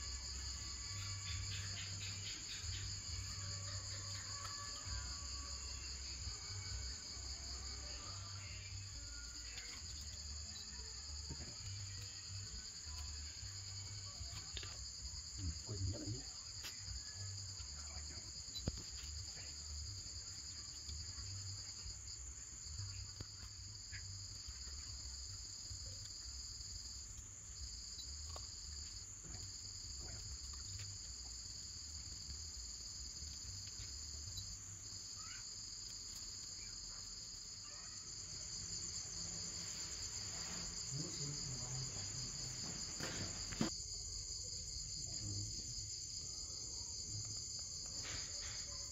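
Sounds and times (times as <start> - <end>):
insects trilling: 0.0 - 48.9.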